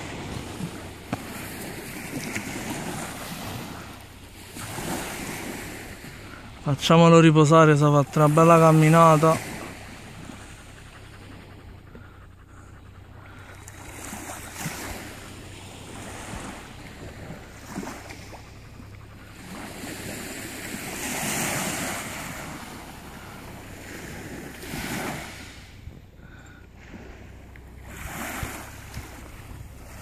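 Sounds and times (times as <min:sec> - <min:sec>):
wind on microphone: 0:00.0 - 0:07.0, 0:08.0 - 0:30.0
waves washing up pebble beach: 0:00.0 - 0:11.7, 0:13.0 - 0:25.8, 0:26.8 - 0:30.0.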